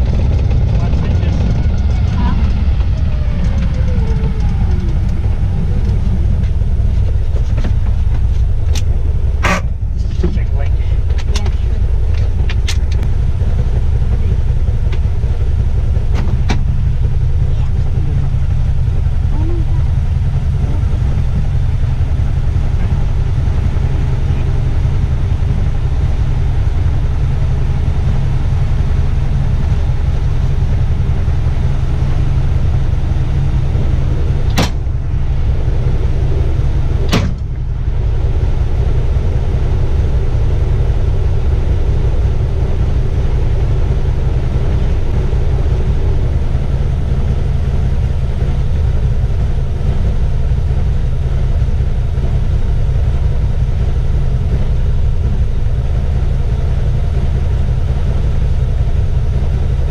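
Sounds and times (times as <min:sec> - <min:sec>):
engine idling low rumble: 0:00.0 - 0:59.9.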